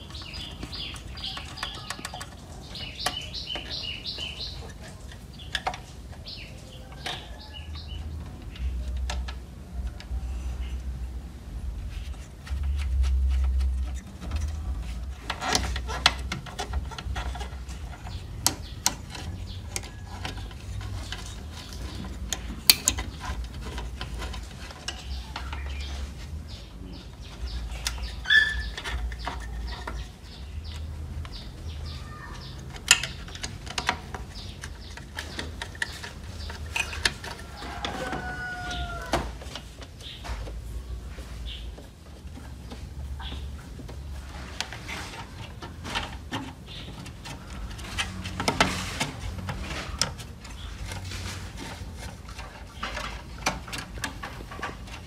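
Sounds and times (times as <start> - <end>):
clicks and knocks of parts: 0.0 - 10.9, 11.8 - 40.7, 41.6 - 55.0.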